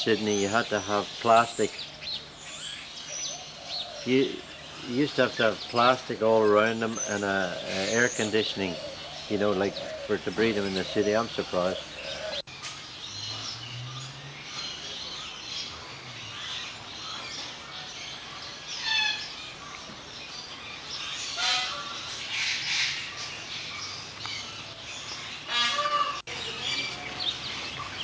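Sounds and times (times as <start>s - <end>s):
harsh bird calls: 0.0s - 28.0s
small birds chirping: 0.0s - 28.0s.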